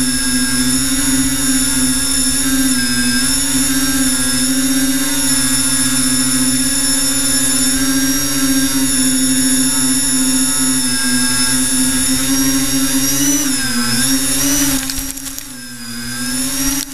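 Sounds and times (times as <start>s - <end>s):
drone motors whining: 0.0s - 16.9s.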